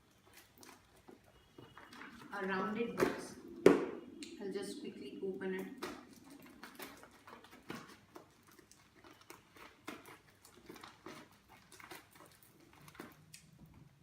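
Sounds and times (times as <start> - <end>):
packaging clicks and rustles: 0.0 - 3.6, 5.4 - 14.0.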